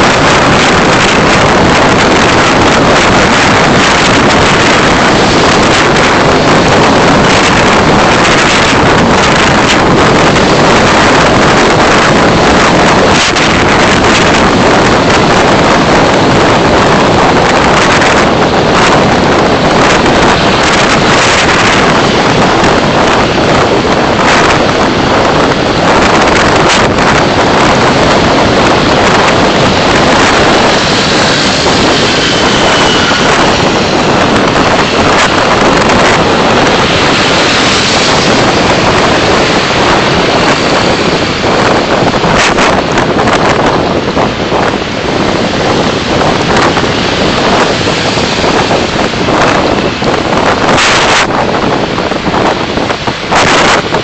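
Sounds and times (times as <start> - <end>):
wind and road noise from car: 0.0 - 54.0.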